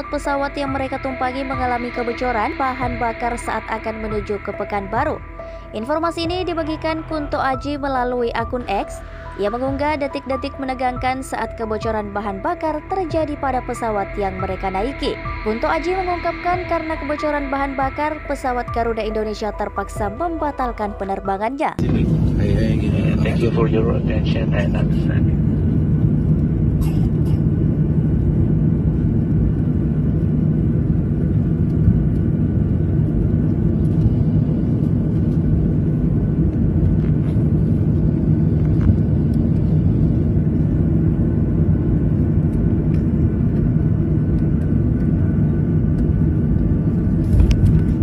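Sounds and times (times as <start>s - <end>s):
jet engines rumbling: 0.0s - 48.0s.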